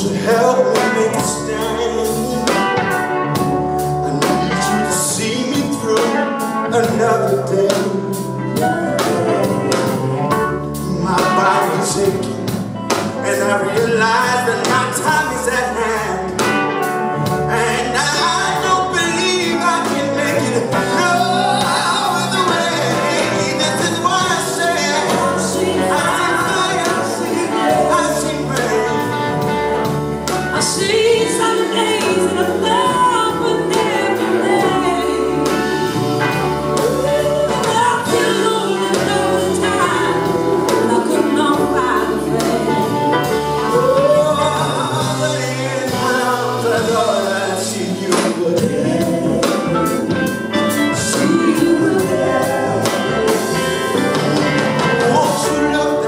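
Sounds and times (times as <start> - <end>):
male backing singers harmonizing: 0.0 - 3.2, 3.8 - 56.0
bass guitar: 0.0 - 56.0
drums: 0.0 - 56.0
electric guitar: 0.0 - 56.0.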